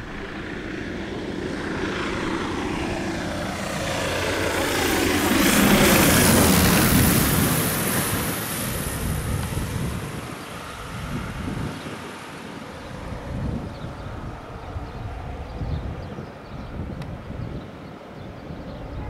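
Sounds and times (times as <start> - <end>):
propeller plane passing overhead: 0.0 - 19.0.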